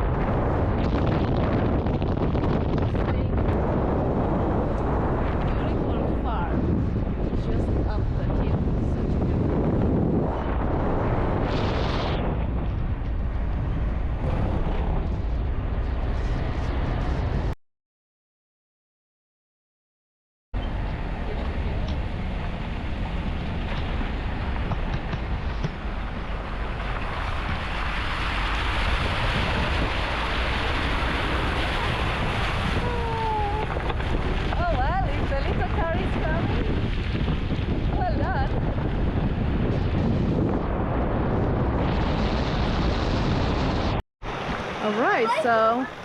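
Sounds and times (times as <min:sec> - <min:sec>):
vehicle rumbling: 0:00.0 - 0:17.6, 0:20.6 - 0:46.0
wind buffeting microphone: 0:00.0 - 0:17.6, 0:20.6 - 0:46.0.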